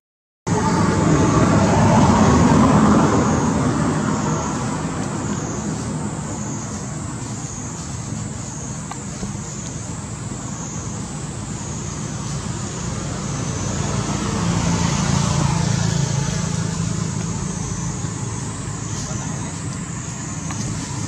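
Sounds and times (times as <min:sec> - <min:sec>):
vehicle drone: 0:00.5 - 0:21.0.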